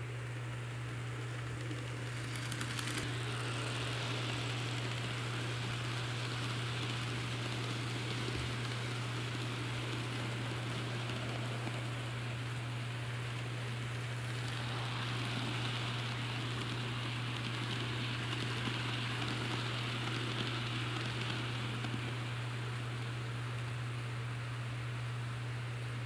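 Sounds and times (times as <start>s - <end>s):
low hum: 0.0s - 26.0s
model train wheels clattering: 1.1s - 22.3s.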